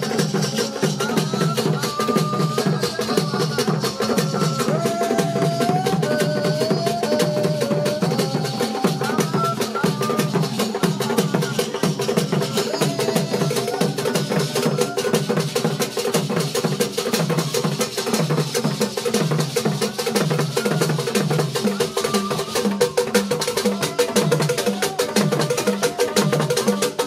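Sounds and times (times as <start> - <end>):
fast drumming: 0.0 - 27.0.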